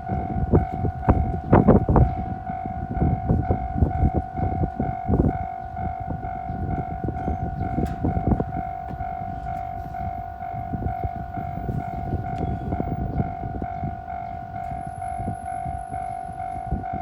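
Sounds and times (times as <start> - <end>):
level-crossing warning bell ringing: 0.0 - 17.0
train wheels rumbling and clattering: 0.0 - 17.0.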